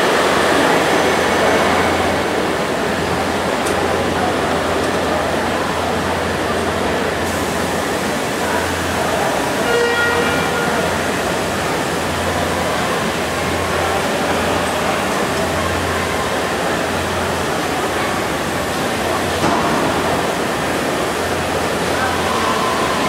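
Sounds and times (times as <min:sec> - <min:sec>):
indistinct crowd voices: 0:00.0 - 0:23.0
steady hall hiss: 0:00.0 - 0:23.0.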